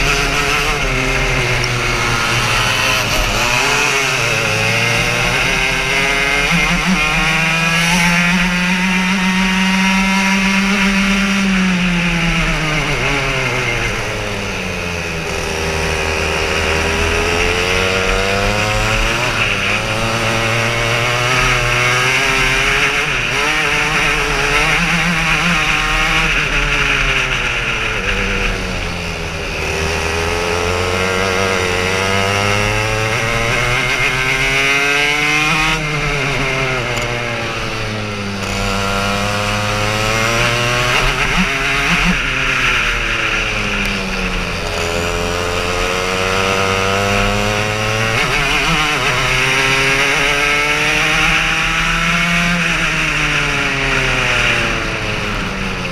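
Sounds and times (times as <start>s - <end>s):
kart engine at full throttle: 0.0s - 55.9s.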